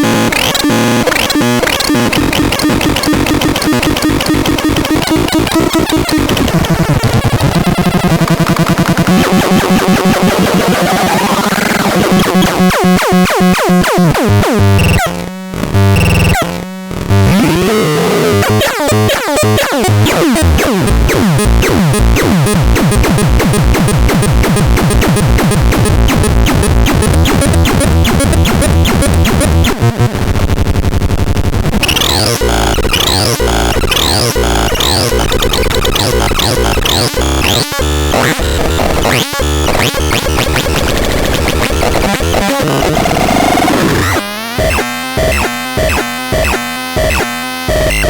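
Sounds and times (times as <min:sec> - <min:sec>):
electronic synthesized tones: 0:00.0 - 0:15.1, 0:17.2 - 0:30.1, 0:31.8 - 0:48.0.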